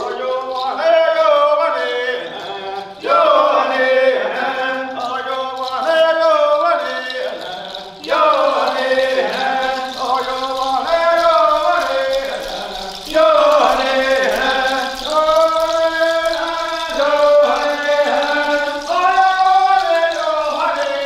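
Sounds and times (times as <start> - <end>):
group of dancers singing responses: 0.0 - 21.0
leader chanting calls: 0.0 - 21.0.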